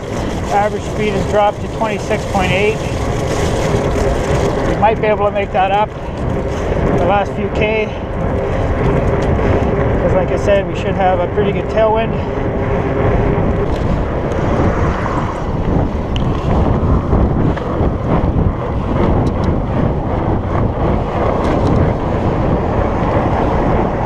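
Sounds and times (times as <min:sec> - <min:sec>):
bike tires rolling on pavement: 0:00.0 - 0:24.0
wind rushing over microphone: 0:00.0 - 0:24.0.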